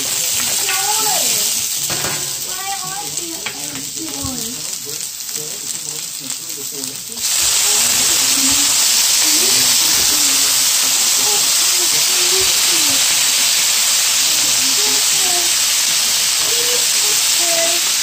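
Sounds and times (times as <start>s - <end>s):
shrimp sizzling in hot oil: 0.0s - 18.0s.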